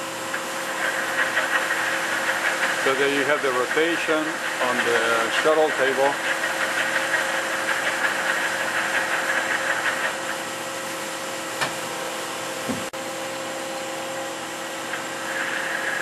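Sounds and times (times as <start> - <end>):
high machine whine: 0.0 - 16.0.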